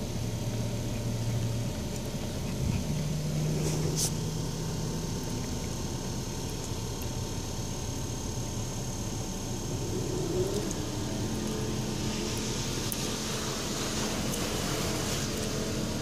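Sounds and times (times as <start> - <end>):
car wash spray and machinery: 0.0 - 16.0
low motor hum: 0.0 - 16.0.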